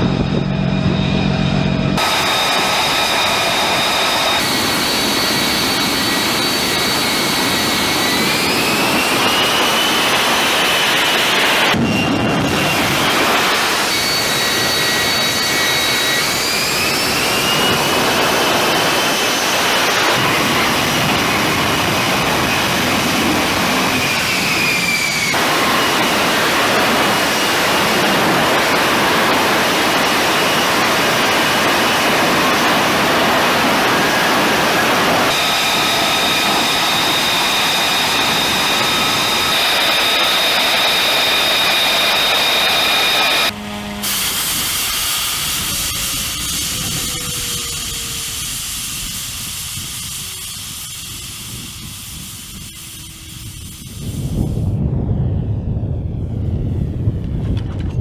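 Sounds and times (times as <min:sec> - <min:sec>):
jet engines roaring and whining: 0:00.0 - 0:58.0.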